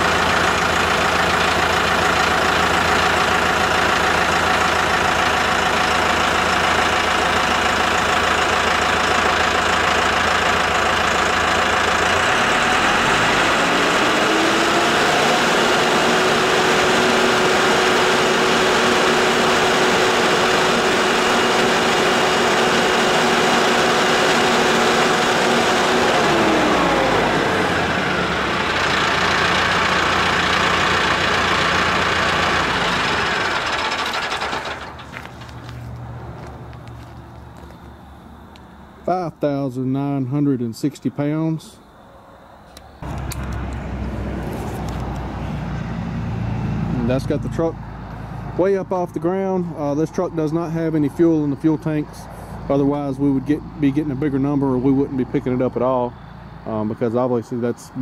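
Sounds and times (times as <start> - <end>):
tractor diesel engine revving: 0.0 - 37.7, 42.8 - 58.0.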